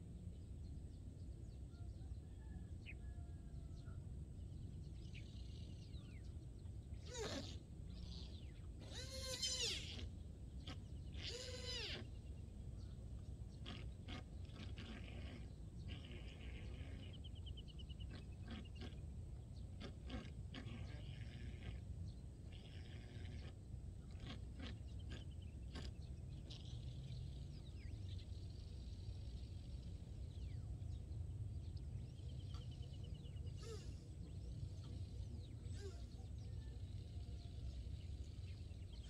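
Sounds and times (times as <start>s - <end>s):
birds chirping: 0.3s - 39.0s.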